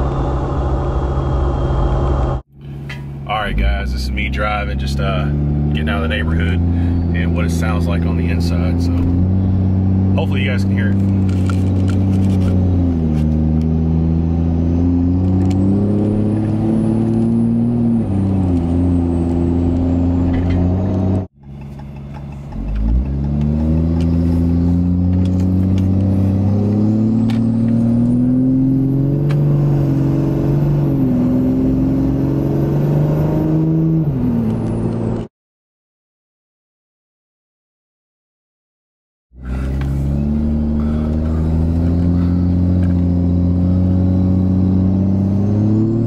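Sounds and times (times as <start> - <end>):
diesel truck engine accelerating: 0.0 - 35.3, 39.4 - 46.0.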